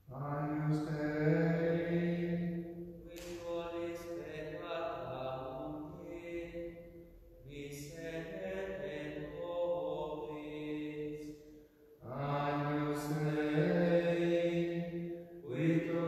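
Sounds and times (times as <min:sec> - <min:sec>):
person singing a chant-like hymn: 0:00.0 - 0:16.0.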